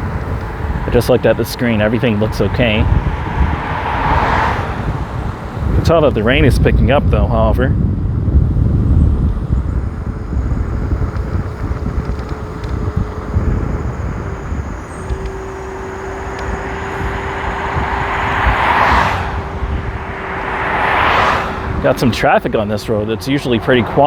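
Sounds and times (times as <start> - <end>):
car tyres hissing on wet road: 0.0 - 6.5, 9.6 - 24.0
wind rumble on microphone: 0.0 - 24.0.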